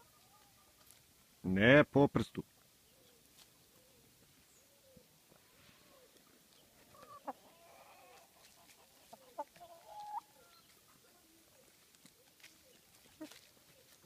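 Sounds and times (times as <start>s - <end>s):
chickens clucking: 2.6s - 14.0s.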